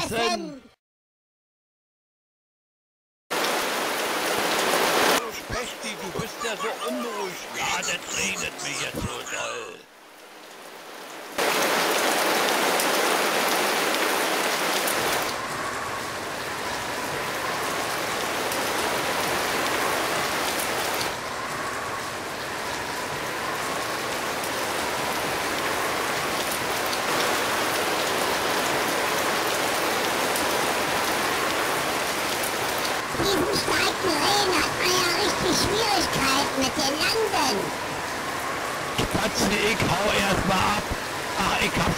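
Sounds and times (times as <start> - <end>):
heavy rain falling: 3.3 - 41.9.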